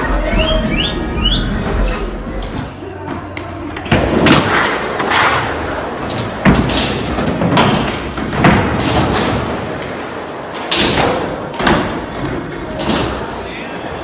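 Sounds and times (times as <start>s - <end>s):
skateboard wheels rolling: 0.0s - 14.0s.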